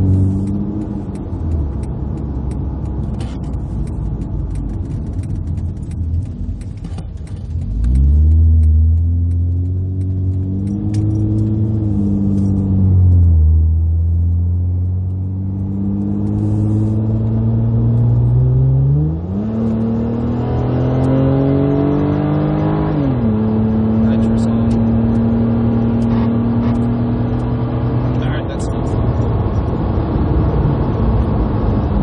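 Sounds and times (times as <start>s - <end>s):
engine accelerating hard: 5.4s - 32.0s.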